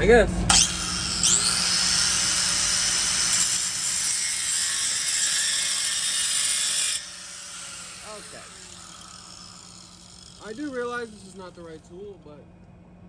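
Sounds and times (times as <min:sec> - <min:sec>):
power tool grinding metal pipe: 0:00.5 - 0:11.8.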